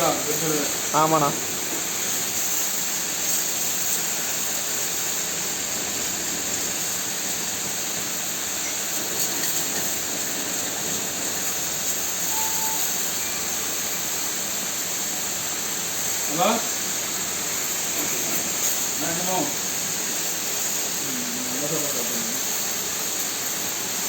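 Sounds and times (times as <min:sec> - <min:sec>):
high-pressure water spraying: 0:00.0 - 0:24.0.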